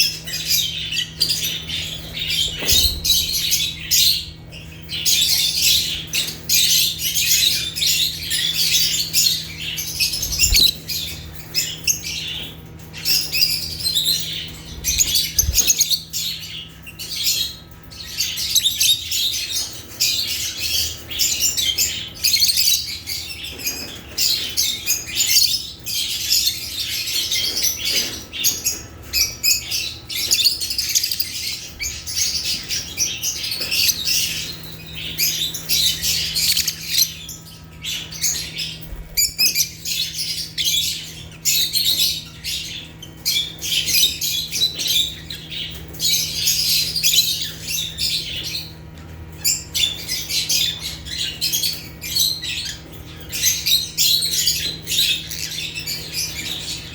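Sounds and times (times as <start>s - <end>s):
lovebirds chirping and squawking: 0.0s - 56.9s.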